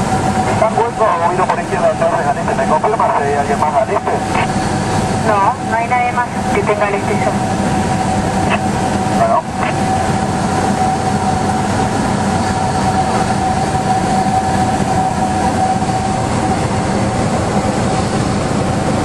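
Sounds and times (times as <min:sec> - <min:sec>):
propeller plane engine droning: 0:00.0 - 0:19.0.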